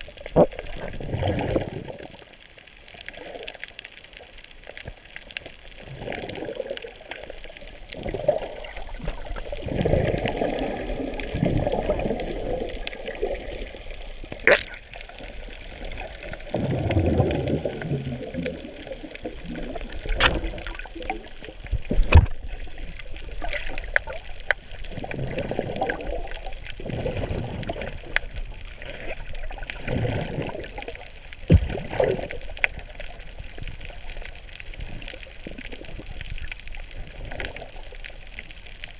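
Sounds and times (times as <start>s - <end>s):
muffled underwater water rushing: 0.0s - 38.9s.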